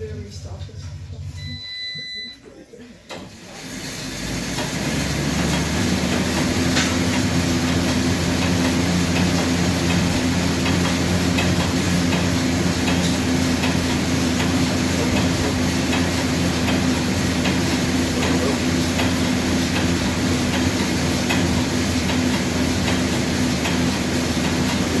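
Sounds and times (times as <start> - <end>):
steady mechanical whir: 3.1 - 25.0.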